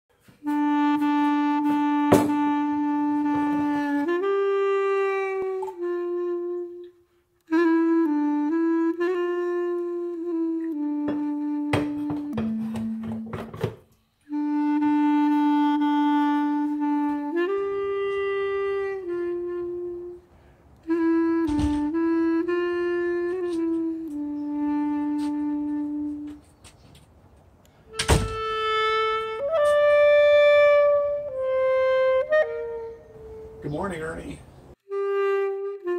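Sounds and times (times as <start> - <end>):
solo wind instrument melody: 0.1 - 35.9.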